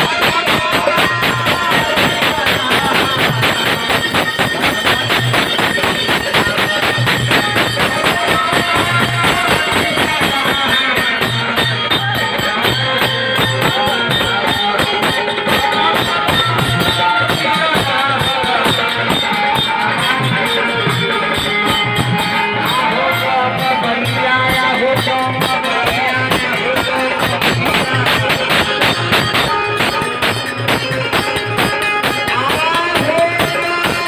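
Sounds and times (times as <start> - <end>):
hand percussion and jingles: 0.0 - 34.0.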